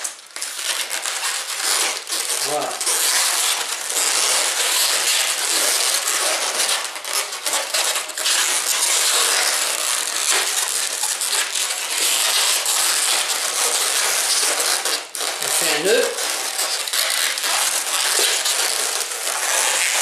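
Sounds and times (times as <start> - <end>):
balloons rubbing together: 0.0 - 20.0.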